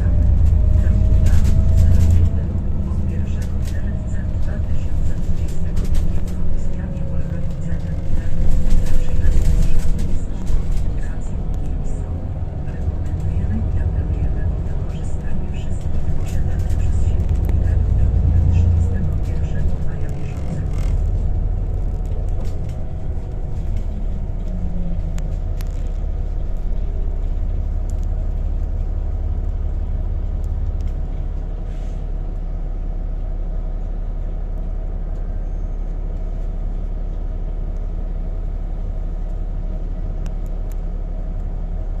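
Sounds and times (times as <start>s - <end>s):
bus engine rumbling: 0.0s - 42.0s.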